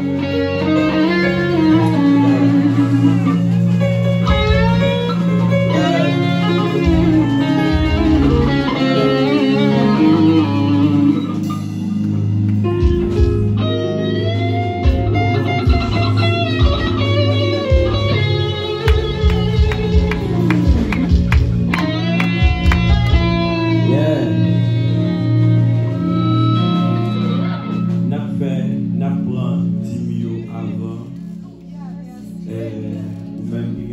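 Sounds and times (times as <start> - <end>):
band playing: 0.0 - 31.4
electric guitar lead: 0.0 - 33.9.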